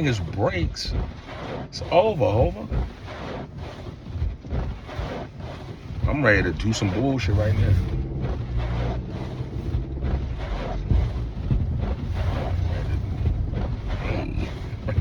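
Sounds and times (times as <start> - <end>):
car engine humming: 0.0 - 15.0
road and tyre noise: 0.0 - 15.0.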